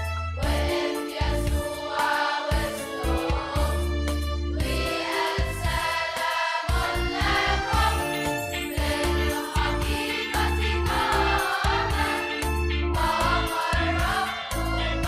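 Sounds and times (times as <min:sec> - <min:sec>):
children's choir singing a hymn: 0:00.4 - 0:15.0.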